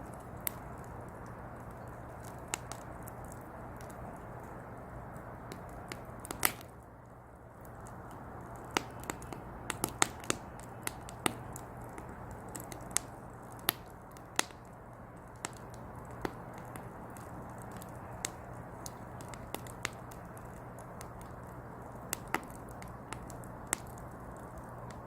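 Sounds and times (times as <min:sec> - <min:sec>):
firewood crackling and popping: 0:00.0 - 0:25.0
soft fire hiss: 0:00.0 - 0:25.0.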